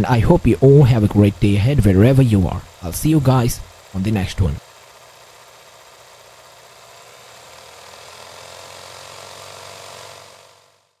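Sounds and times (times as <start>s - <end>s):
film projector running: 0.0s - 11.0s.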